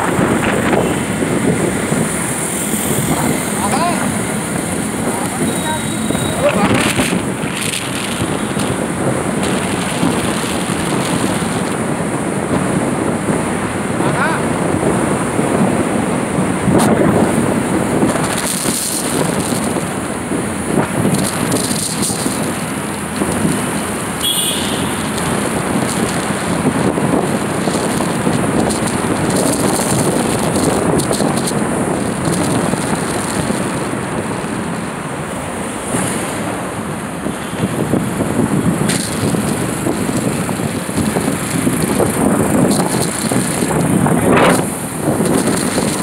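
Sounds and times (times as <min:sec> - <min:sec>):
road and wind noise from vehicle: 0:00.0 - 0:46.0
traffic rushing in tunnel: 0:00.0 - 0:46.0
wind buffeting the microphone: 0:00.0 - 0:46.0.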